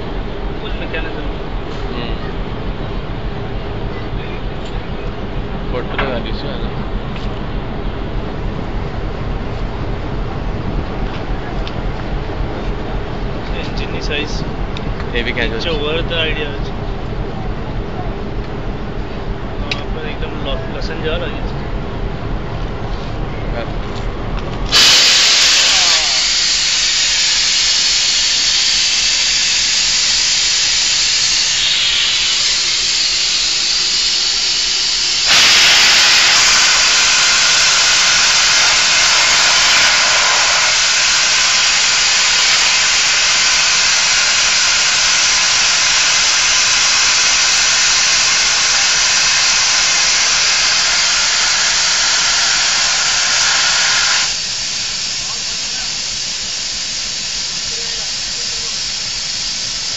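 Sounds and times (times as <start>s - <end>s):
loud steady hiss: 0.0s - 59.9s.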